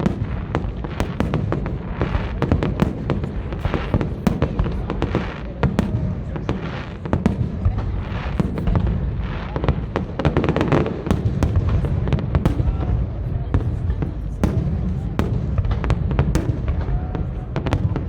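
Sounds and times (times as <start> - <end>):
fireworks bursting and crackling: 0.0 - 18.0
rumble of explosions echoing: 0.0 - 18.0.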